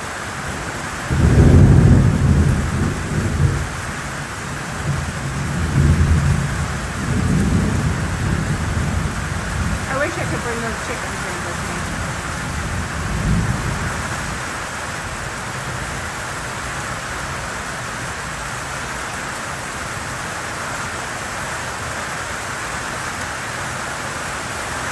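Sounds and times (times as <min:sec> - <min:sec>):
heavy rain pouring: 0:00.0 - 0:24.9.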